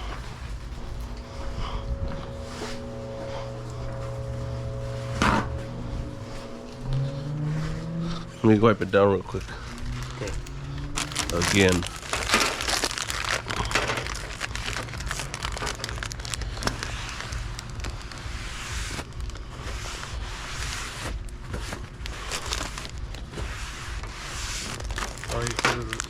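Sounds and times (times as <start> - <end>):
low steady hum: 0.0 - 26.0
paper or plastic crinkling: 0.0 - 26.0.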